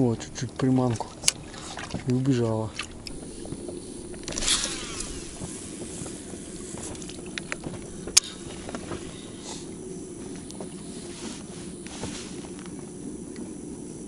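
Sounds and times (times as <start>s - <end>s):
fishing reel spool whirring: 0.0s - 14.0s
steady low hum: 0.0s - 14.0s.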